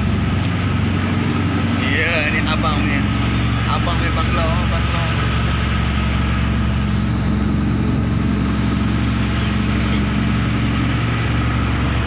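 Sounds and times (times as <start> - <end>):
boat engine droning: 0.0 - 12.0
wake water rushing: 0.0 - 12.0.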